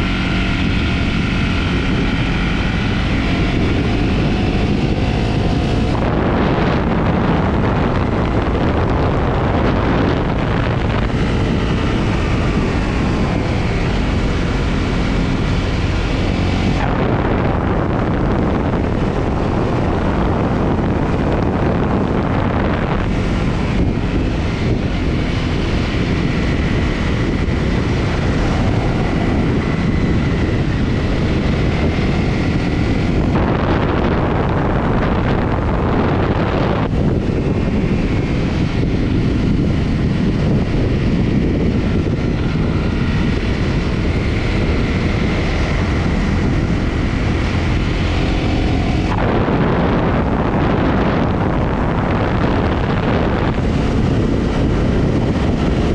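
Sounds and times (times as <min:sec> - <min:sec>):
motorcycle engine revving: 0:00.0 - 0:55.9
wind noise on microphone: 0:00.0 - 0:55.9.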